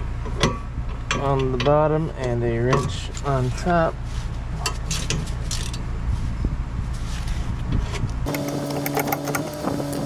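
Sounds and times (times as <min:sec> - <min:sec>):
fan noise: 0:00.0 - 0:10.0.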